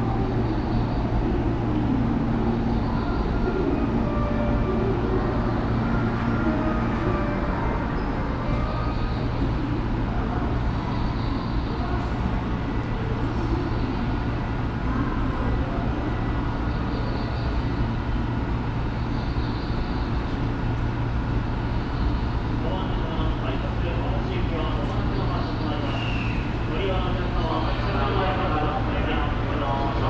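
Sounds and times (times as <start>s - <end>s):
electric train low hum: 0.0s - 30.0s
train rumbling: 0.0s - 30.0s.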